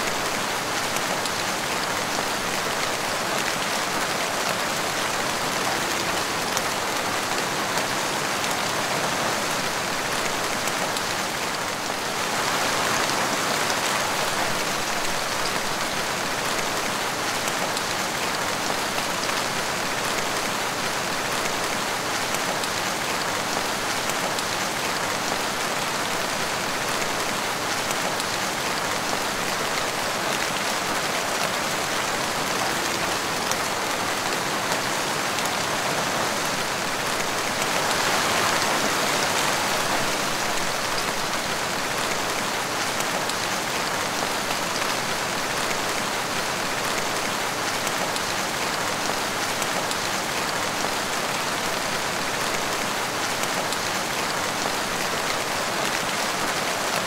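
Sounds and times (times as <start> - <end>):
rain splashing on tiles: 0.0 - 57.0.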